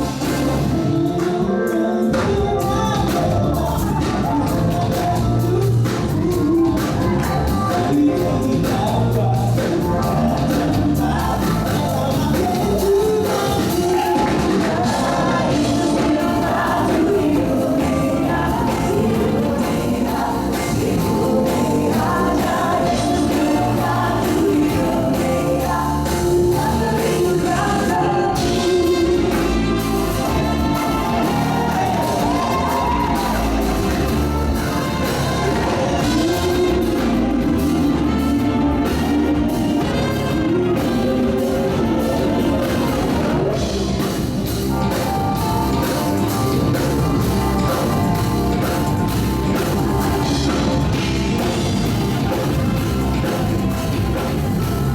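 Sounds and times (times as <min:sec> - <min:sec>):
gospel band playing: 0:00.0 - 0:54.9
voices singing: 0:00.0 - 0:54.9.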